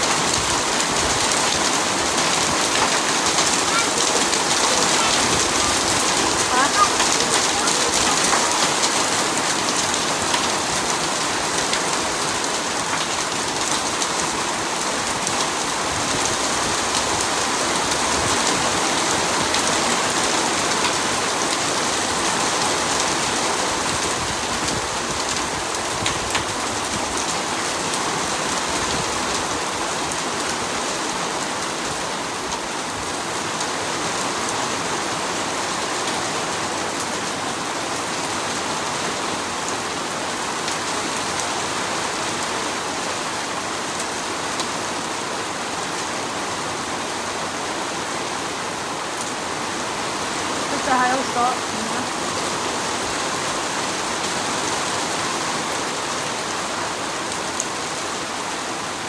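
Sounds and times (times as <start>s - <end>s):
hail and heavy rain pattering: 0.0s - 59.0s.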